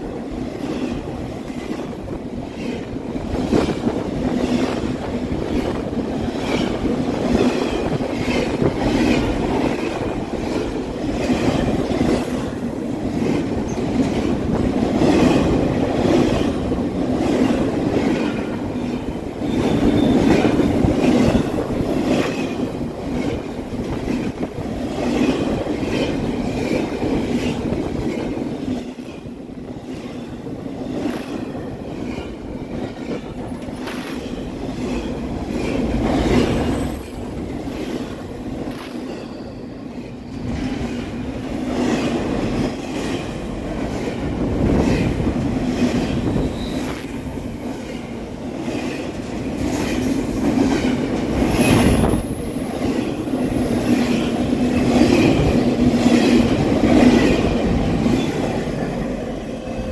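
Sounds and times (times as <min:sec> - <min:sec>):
commuter coaches rolling: 0:00.0 - 0:59.9
freight train wheels clicking: 0:00.0 - 0:59.9.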